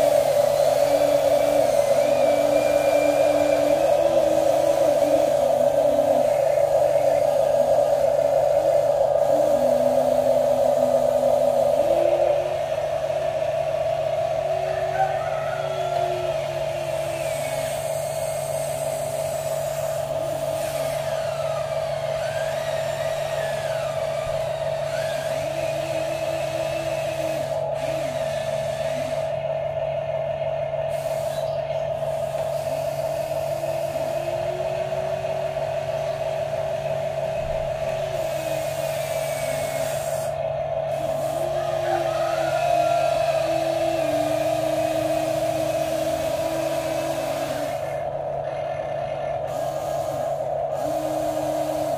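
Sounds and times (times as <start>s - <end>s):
steady electric motor whine: 0.0s - 51.9s
toy motors whining up and down: 0.0s - 51.9s.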